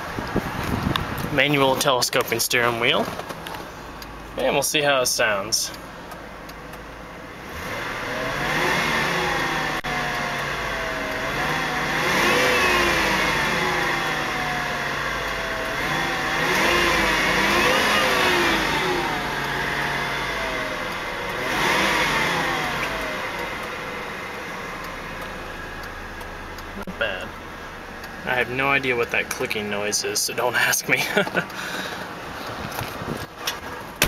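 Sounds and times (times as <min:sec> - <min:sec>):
car engine revving: 0:02.5 - 0:34.0.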